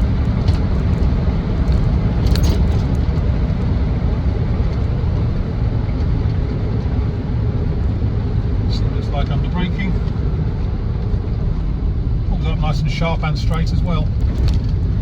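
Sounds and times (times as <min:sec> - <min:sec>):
diesel engine drone: 0:00.0 - 0:15.0
tyre and road noise: 0:00.0 - 0:15.0.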